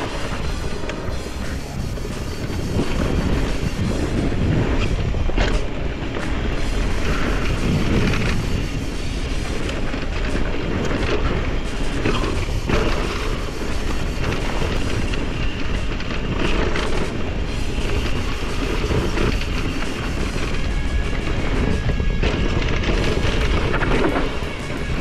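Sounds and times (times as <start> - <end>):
bike rolling on rough dirt: 0.0 - 25.0
wind buffeting microphone: 0.0 - 25.0.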